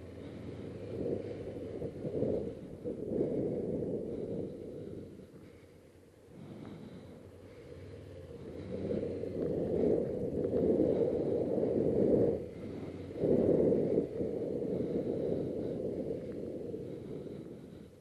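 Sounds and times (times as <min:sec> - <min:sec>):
wind noise: 0:00.0 - 0:05.7, 0:08.4 - 0:18.0
muffled motorcycle engine: 0:00.0 - 0:18.0.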